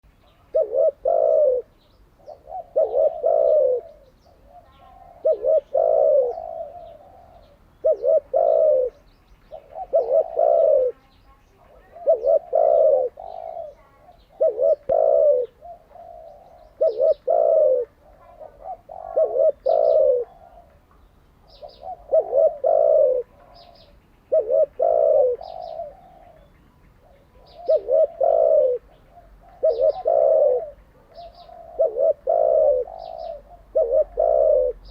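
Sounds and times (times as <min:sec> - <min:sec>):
dove cooing: 0:00.0 - 0:34.9
small bird chirping: 0:00.0 - 0:34.9.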